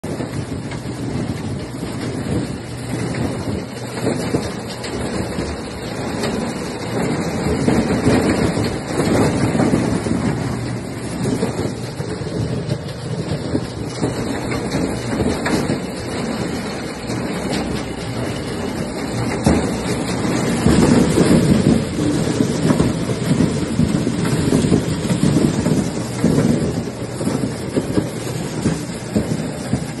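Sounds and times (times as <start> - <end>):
corn clattering in metal trough: 0.0 - 30.0.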